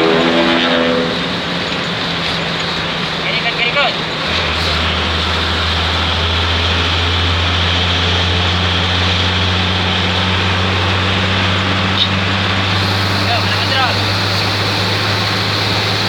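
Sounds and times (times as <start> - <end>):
bus engine droning: 0.0 - 16.0
road noise hiss: 0.0 - 16.0.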